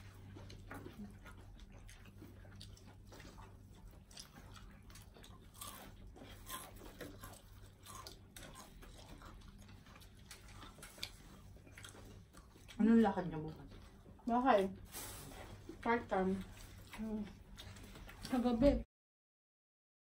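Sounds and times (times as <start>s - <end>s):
people chewing fried chicken: 0.0s - 18.8s
low room hum: 0.0s - 18.9s.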